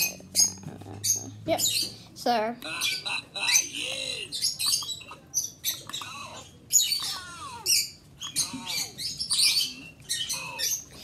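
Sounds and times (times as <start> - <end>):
bird chirping and squawking: 0.0 - 11.0.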